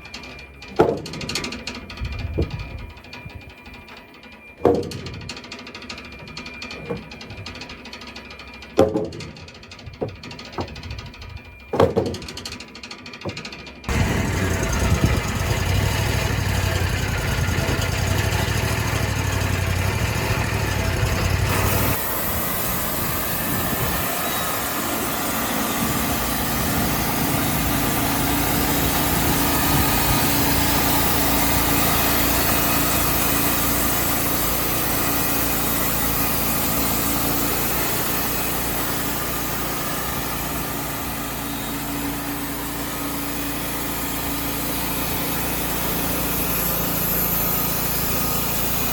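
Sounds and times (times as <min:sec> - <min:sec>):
band sawmill engine running: 0:00.0 - 0:48.9.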